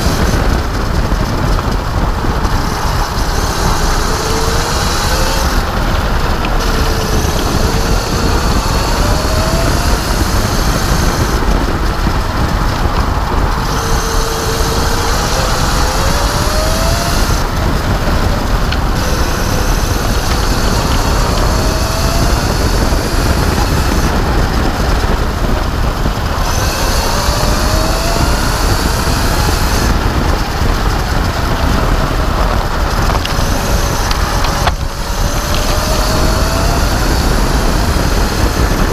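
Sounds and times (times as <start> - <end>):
electric kart motor whine: 0.0 - 38.9
wind rumble: 0.0 - 38.9.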